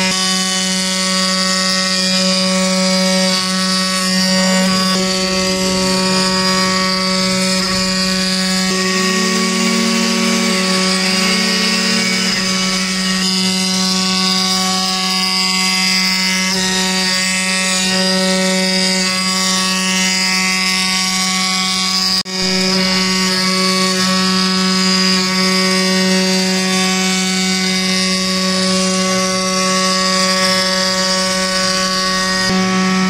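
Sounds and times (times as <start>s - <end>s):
machine spindle whining: 0.0s - 33.0s
wood being cut: 0.0s - 33.0s.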